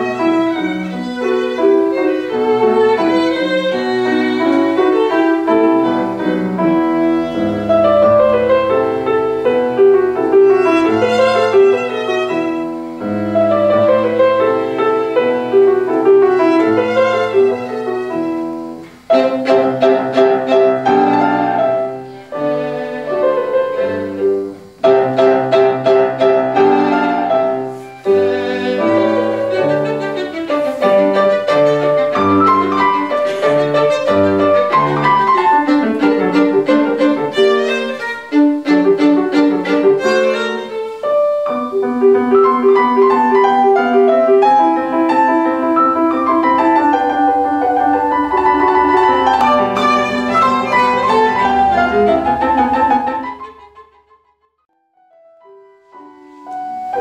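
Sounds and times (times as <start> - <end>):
violin: 0.0 - 54.7
grand piano: 0.0 - 57.0.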